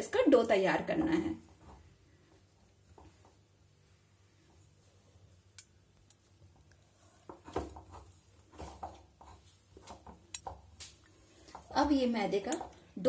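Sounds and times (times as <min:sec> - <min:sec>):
hands kneading dough: 0:00.7 - 0:13.0.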